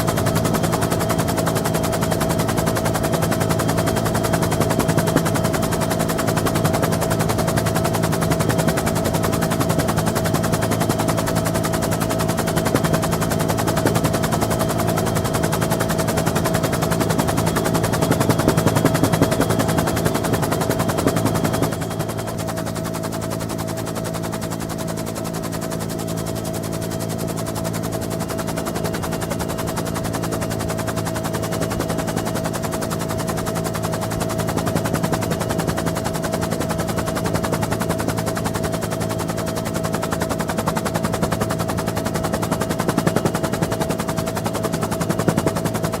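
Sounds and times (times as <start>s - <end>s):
helicopter engine whine: 0.0s - 46.0s
helicopter rotor chopping: 0.0s - 46.0s.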